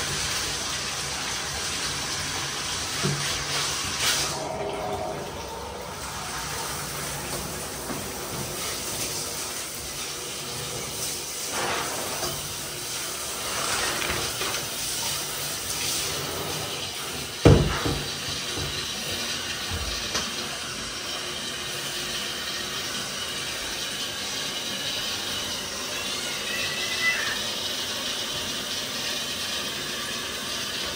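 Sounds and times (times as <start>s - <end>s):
shower water running into bathtub: 0.0s - 30.9s.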